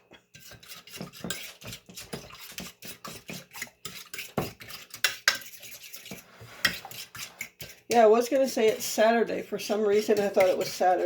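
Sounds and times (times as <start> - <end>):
utensil beating batter in bowl: 0.0 - 11.0.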